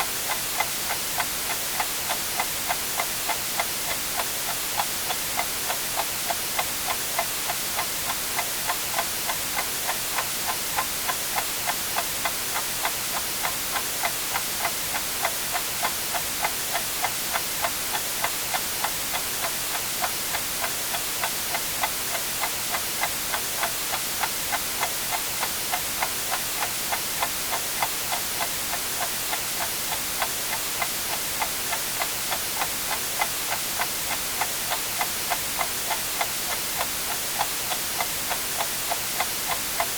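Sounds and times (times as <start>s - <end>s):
white noise hiss: 0.0s - 39.9s
clock ticking: 0.3s - 39.9s.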